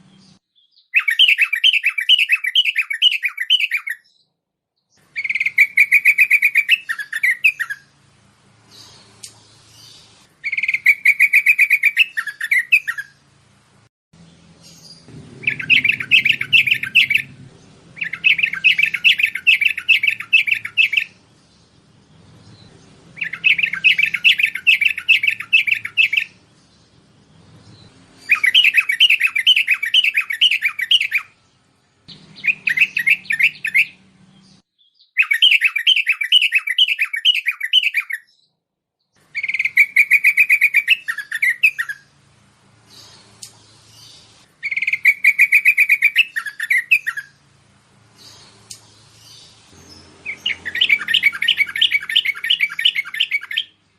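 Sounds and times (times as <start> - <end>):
bulbul song: 0.0 - 13.4, 14.2 - 38.4, 39.2 - 53.9.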